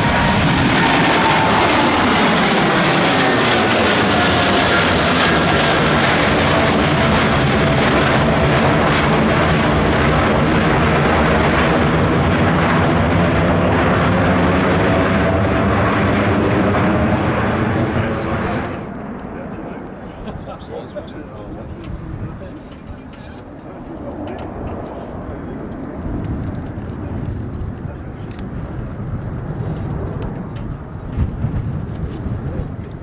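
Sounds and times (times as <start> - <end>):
jet airliner flying past: 0.0 - 33.0
jet engine whine: 0.0 - 33.0.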